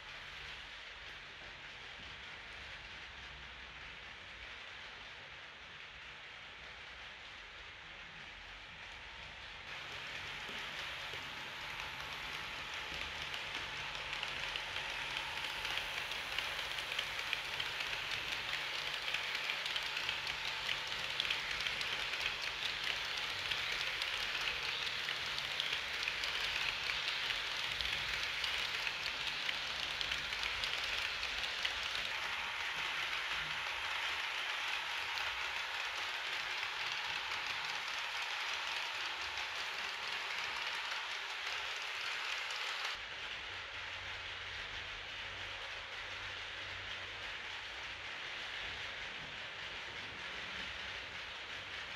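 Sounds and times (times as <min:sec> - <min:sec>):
model train wheels rattling on rails: 0:00.0 - 0:51.9.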